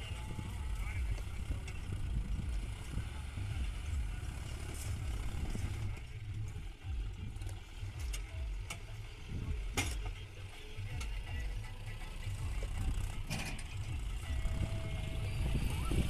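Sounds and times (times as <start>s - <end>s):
tractor diesel engine labouring: 0.0s - 16.0s.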